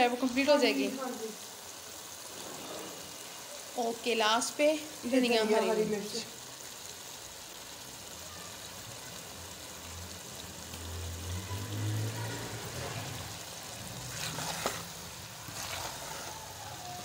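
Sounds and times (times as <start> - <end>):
curry sizzling in pot: 0.0 - 17.0.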